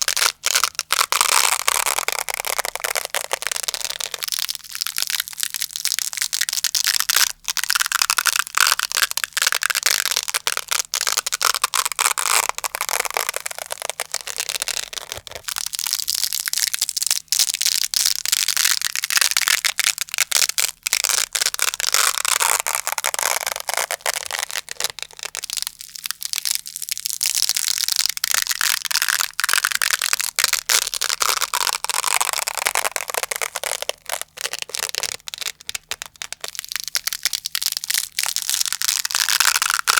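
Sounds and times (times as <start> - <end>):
velcro fastener crackling rasp: 0.0 - 39.9.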